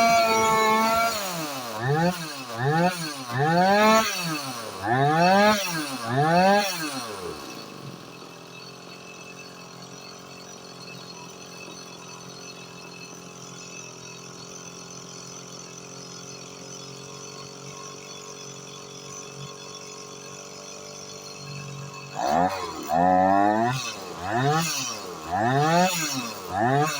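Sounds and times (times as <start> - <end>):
chainsaw revving and idling: 0.0 - 26.9.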